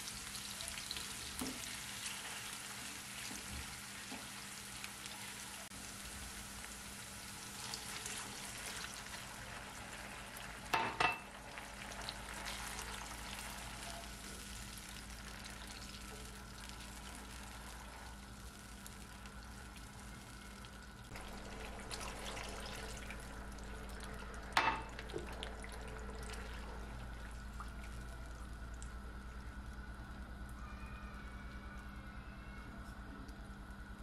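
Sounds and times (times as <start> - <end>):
sauce simmering and sizzling: 0.0 - 30.6.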